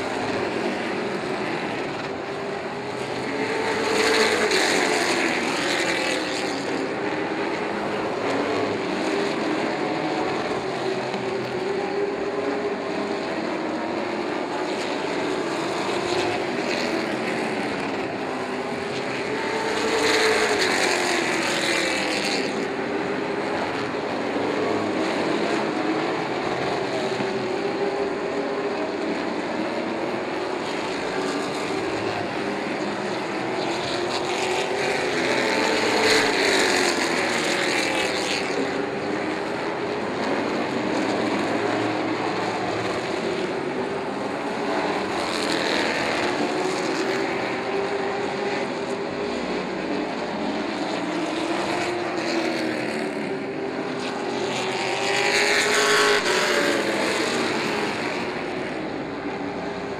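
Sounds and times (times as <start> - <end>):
race truck engines passing: 0.0 - 59.9.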